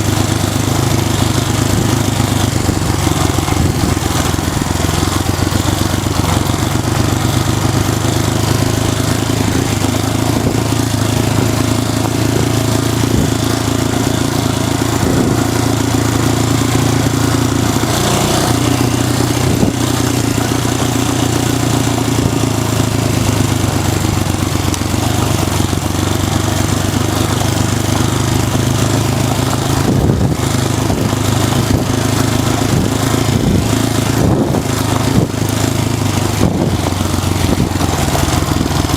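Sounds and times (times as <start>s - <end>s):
motorcycle engine running: 0.0s - 38.9s
steady rushing noise: 0.0s - 38.9s.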